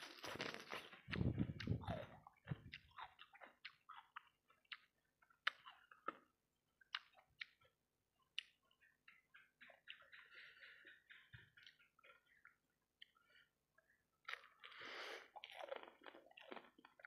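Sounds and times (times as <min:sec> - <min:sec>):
close chewing with wet mouth clicks: 0:00.0 - 0:17.0.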